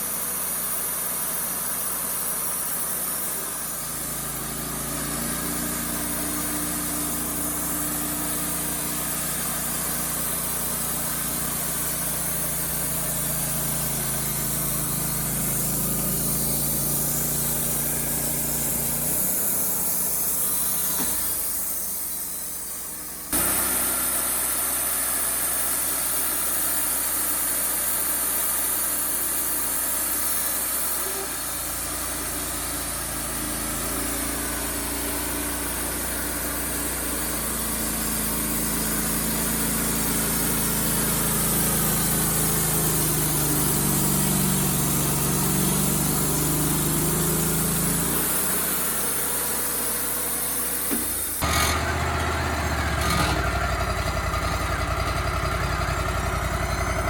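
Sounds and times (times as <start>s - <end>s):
band sawmill engine droning: 0.0s - 57.0s.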